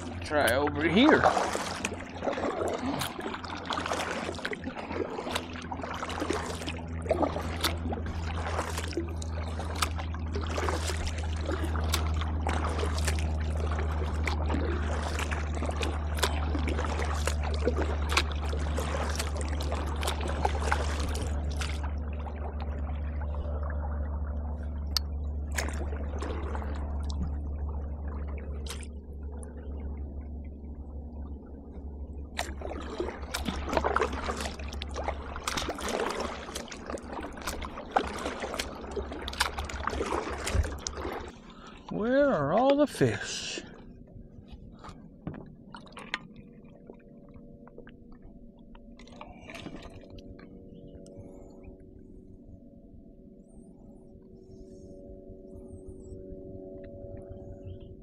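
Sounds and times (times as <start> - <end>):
paddle splashing water: 0.0 - 51.5
low rumble: 0.0 - 58.0.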